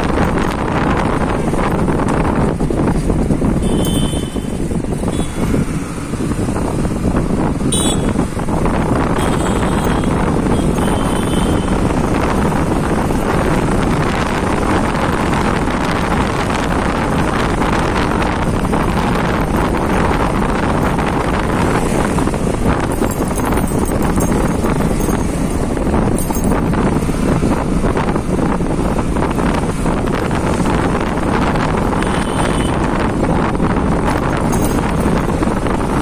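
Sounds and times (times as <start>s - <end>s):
motorcycle engine: 0.0s - 36.0s
wind rushing over microphone: 0.0s - 36.0s.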